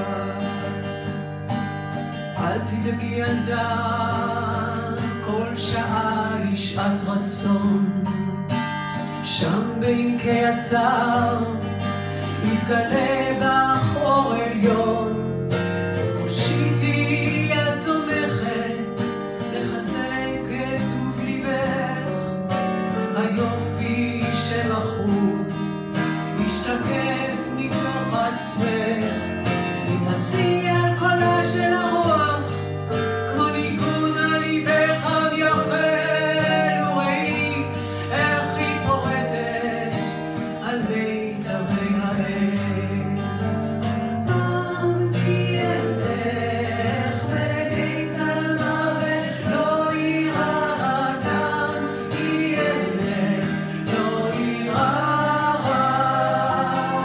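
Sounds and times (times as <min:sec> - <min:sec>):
guitar strumming: 0:00.0 - 0:57.0.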